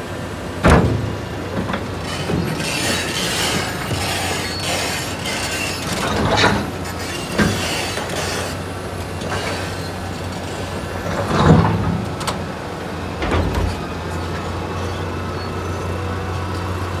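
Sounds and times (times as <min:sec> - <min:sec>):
excavator diesel engine running: 0:00.0 - 0:17.0
hydraulic boom clunks: 0:00.6 - 0:15.0.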